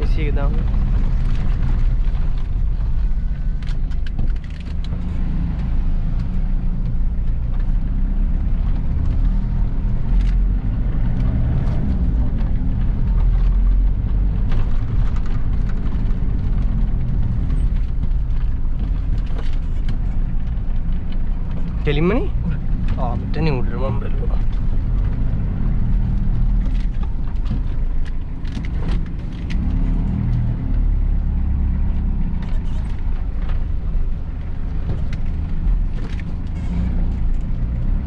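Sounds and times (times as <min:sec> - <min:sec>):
diesel engine droning: 0:00.0 - 0:38.0
road noise: 0:00.0 - 0:38.0.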